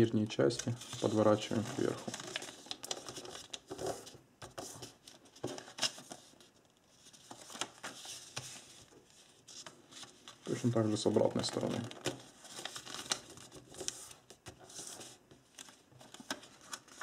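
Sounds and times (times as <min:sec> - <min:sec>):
paper rustling and crackling: 0:00.4 - 0:17.0.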